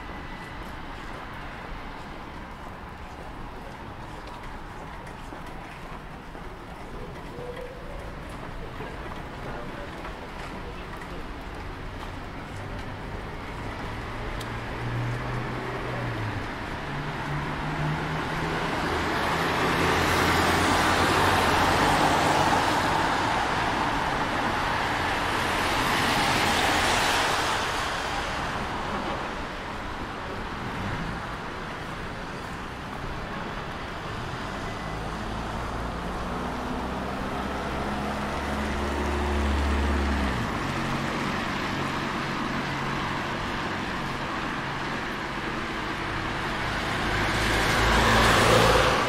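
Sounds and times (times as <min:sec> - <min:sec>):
low traffic hum: 0:00.0 - 0:49.0.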